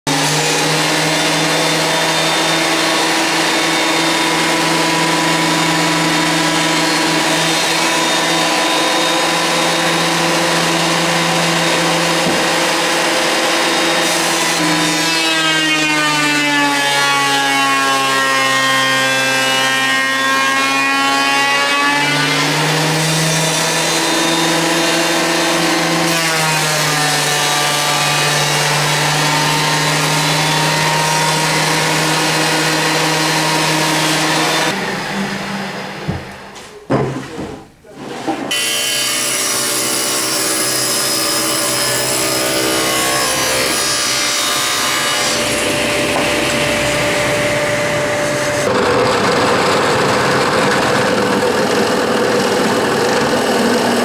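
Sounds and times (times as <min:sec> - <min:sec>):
thickness planer running: 0:00.1 - 0:36.7, 0:38.5 - 0:54.0
planer cutting board: 0:00.1 - 0:54.0.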